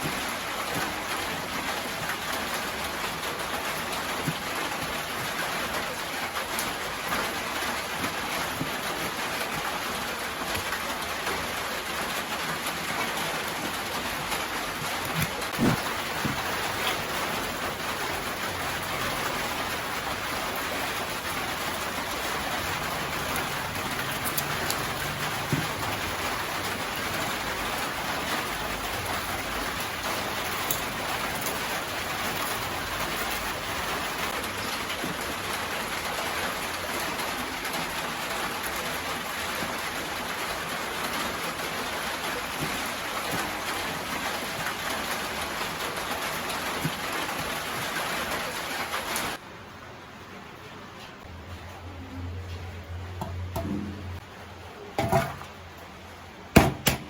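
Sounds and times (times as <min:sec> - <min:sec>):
sharp rain taps: 0:00.0 - 0:49.4, 0:56.5 - 0:57.0
steady rain hiss: 0:00.0 - 0:52.4.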